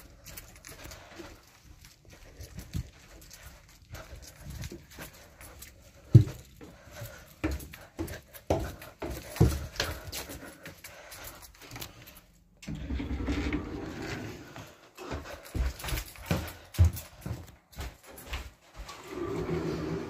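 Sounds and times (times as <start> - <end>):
footsteps: 0.0 - 20.0.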